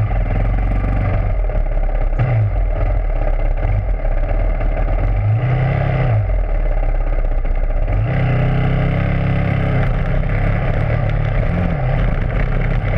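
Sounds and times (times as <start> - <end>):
dirt bike engine revving: 0.0 - 6.8, 7.8 - 12.9.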